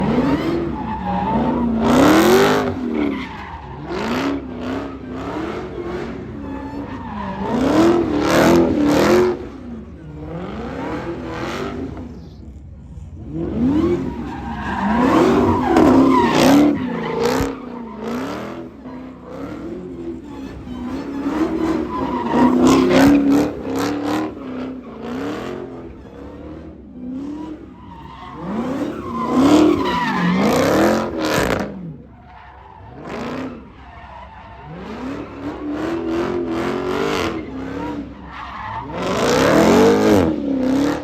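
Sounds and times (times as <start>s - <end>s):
tires squealing and skidding: 0.0s - 12.4s, 13.0s - 41.0s
car engine revving: 0.0s - 41.0s.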